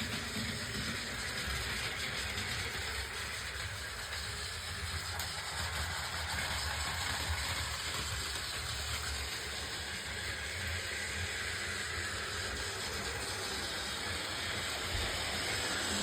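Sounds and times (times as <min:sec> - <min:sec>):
train rumbling and hissing: 0:00.0 - 0:16.0.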